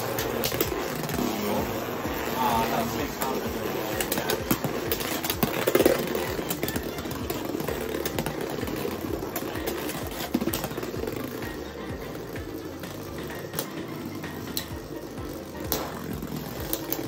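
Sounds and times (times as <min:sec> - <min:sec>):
spinning tops clacking: 0:00.0 - 0:17.0
spinning tops whirring: 0:00.0 - 0:17.0.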